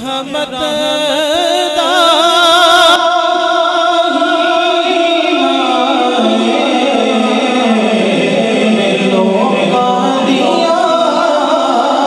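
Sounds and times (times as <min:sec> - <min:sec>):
man singing with vibrato: 0:00.0 - 0:12.0.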